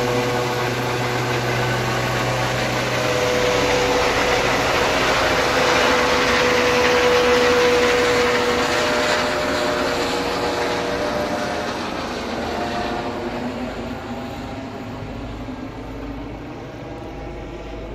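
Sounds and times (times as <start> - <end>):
helicopter rotor and turbine: 0.0 - 17.9
steady whine: 0.0 - 17.9.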